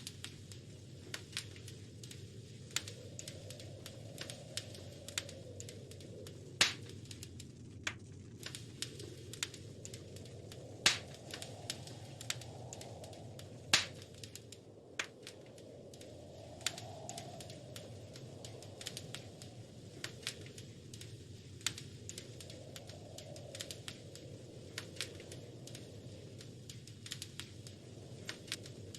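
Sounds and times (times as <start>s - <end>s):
loud fire pops: 0.0s - 28.9s
wood fire crackling: 0.0s - 28.9s.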